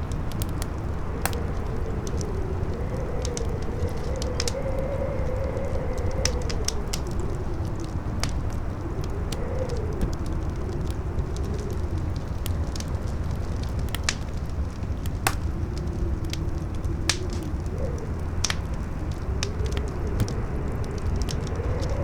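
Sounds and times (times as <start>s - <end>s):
campfire crackling and popping: 0.0s - 22.0s
howling wind: 0.0s - 22.0s.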